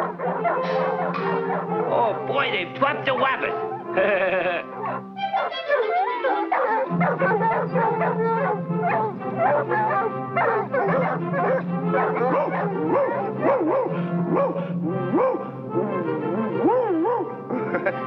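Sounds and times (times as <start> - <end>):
cartoon dogs barking and yelping: 0.0 - 1.9, 3.1 - 17.7
orchestral cartoon music: 0.0 - 18.0.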